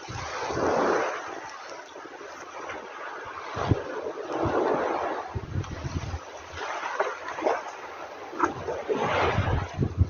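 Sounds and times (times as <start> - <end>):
sea waves washing in: 0.0 - 10.0
wind rumbling on microphone: 0.0 - 10.0.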